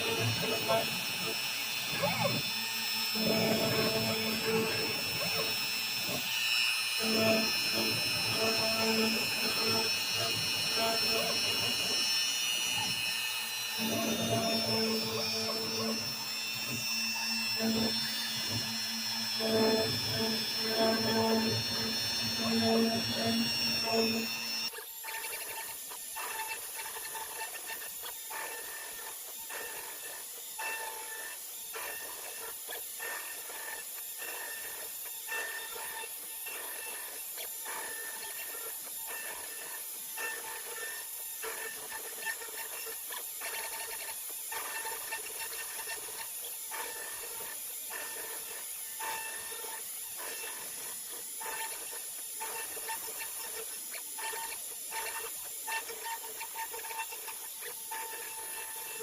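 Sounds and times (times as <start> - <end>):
router spindle whining while carving wood: 0.0 - 59.0.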